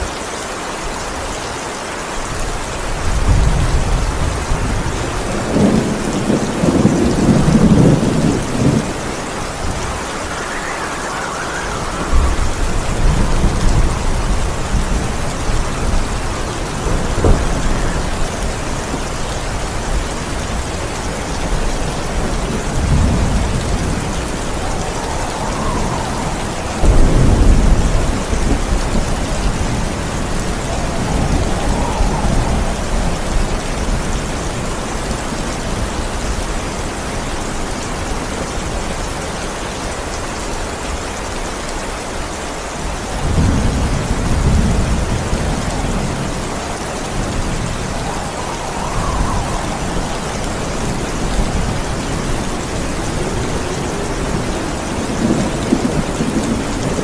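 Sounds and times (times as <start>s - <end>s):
heavy rain: 0.0s - 57.0s
rolling thunder: 2.8s - 38.9s, 42.8s - 57.0s.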